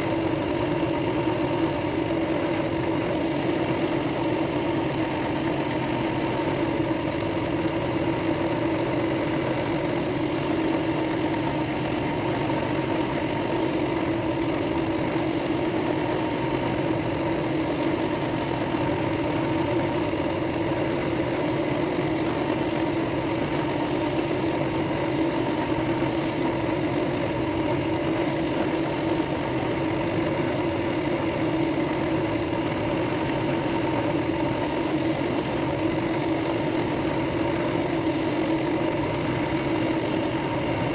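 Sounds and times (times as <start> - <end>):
drill press motor hum: 0.0 - 40.9.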